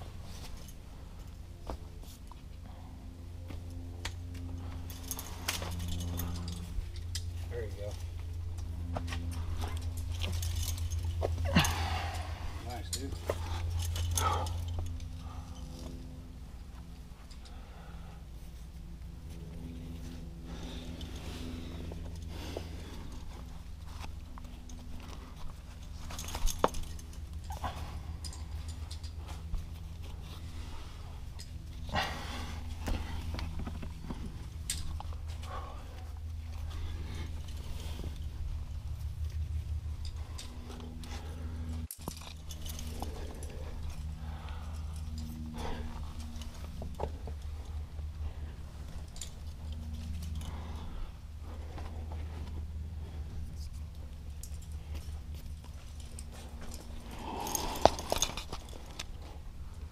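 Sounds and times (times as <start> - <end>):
steady low rumble: 0.0 - 59.9
carabiners clicking: 4.0 - 16.2, 20.5 - 51.1, 53.5 - 59.9.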